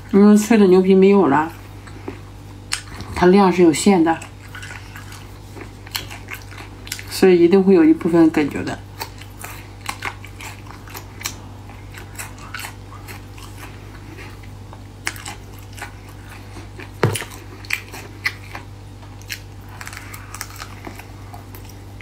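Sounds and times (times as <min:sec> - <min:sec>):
chewing with wet mouth clicks: 0:01.5 - 0:03.2, 0:04.1 - 0:07.2, 0:08.0 - 0:22.0.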